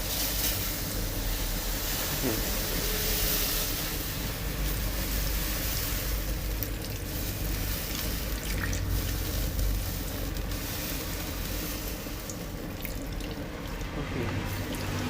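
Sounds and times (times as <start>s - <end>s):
water running: 0.7s - 15.0s.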